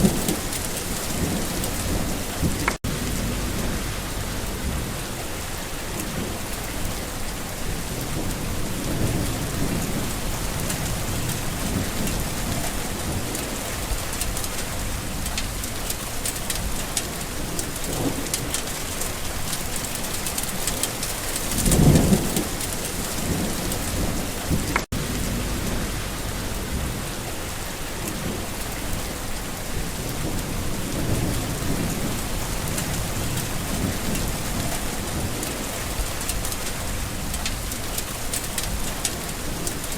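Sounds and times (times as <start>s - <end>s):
steady rain falling: 0.0s - 39.9s
thunder rumbling: 0.0s - 39.9s.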